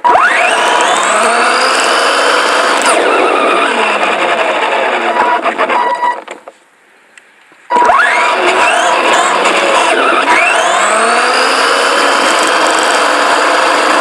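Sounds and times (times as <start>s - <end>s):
rc car motor whining: 0.0s - 6.2s, 7.7s - 14.0s
rough road and tyre noise: 0.0s - 14.0s.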